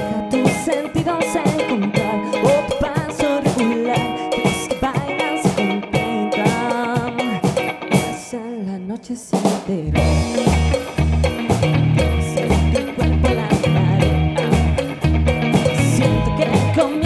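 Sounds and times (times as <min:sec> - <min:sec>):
bass guitar: 0:00.0 - 0:08.3, 0:09.4 - 0:17.0
drum kit: 0:00.0 - 0:08.3, 0:09.3 - 0:17.0
electric guitars: 0:00.0 - 0:08.7, 0:09.4 - 0:17.0
lead singer singing: 0:00.0 - 0:10.4, 0:12.1 - 0:14.9, 0:15.6 - 0:17.0.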